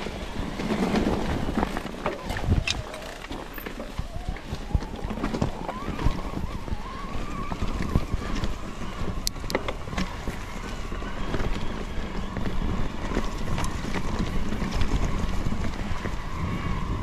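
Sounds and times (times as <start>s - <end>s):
bicycle rolling rumble: 0.0s - 17.0s
bike clicks and rattles: 0.0s - 17.0s
wind buffeting microphone: 0.0s - 17.0s.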